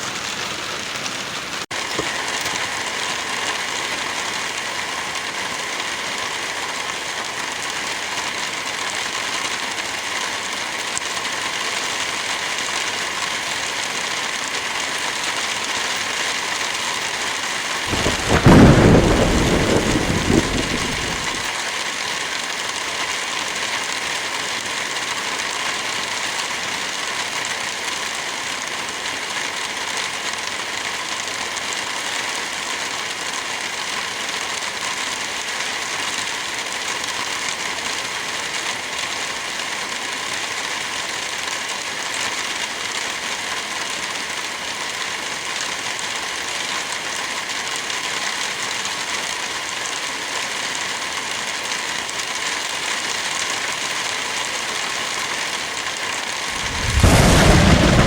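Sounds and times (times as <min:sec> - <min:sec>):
heavy rain falling: 0:00.1 - 0:50.2, 0:50.9 - 0:58.0.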